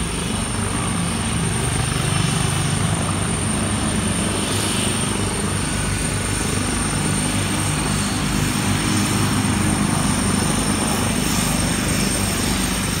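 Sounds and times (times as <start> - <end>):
propeller drone: 0.0 - 13.0
turbine engine whine: 0.0 - 13.0.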